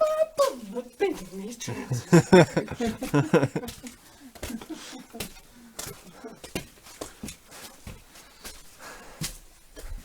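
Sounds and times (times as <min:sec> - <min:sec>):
footsteps on rocky path: 0:01.1 - 0:10.0.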